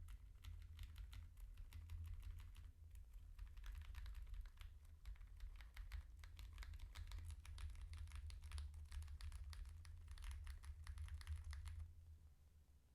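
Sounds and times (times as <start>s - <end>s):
mechanical keyboard typing: 0.0s - 11.8s.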